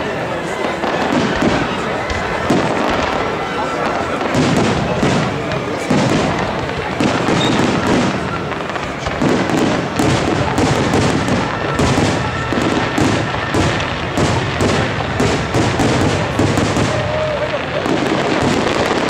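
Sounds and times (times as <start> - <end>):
firework crackling: 0.0 - 19.0.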